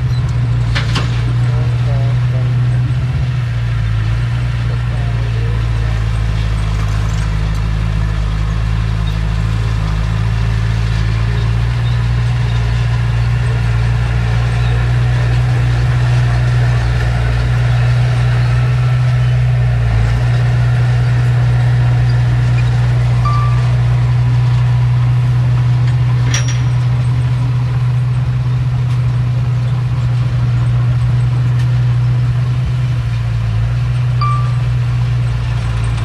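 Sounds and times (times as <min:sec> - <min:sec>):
heavy diesel engine droning: 0:00.0 - 0:36.0.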